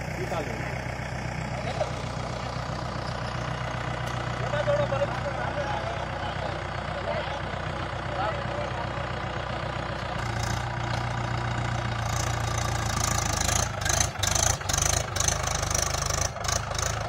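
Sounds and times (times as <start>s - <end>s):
tractor diesel engine straining: 0.0s - 17.0s.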